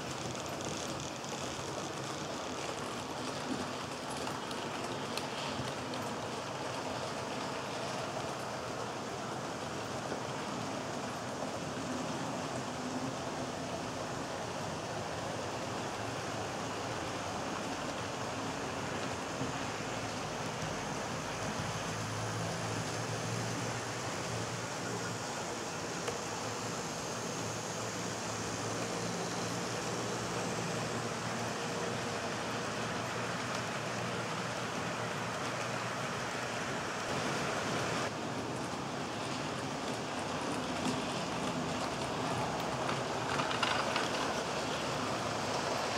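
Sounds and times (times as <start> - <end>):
metal wheels rolling on track: 0.0 - 13.7, 14.3 - 45.9
model train motors whirring: 0.0 - 45.9.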